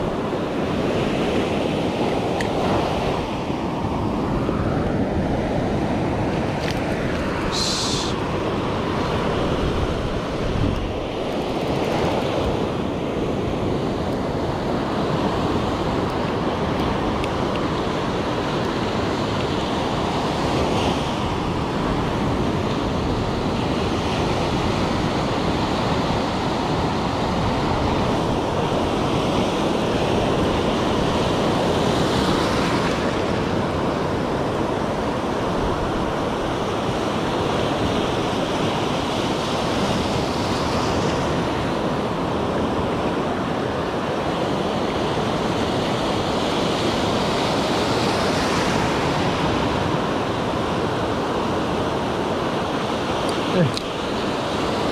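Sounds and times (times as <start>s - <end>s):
wind buffeting microphone: 0.0s - 46.3s
sea surf breaking on shore: 0.0s - 54.9s.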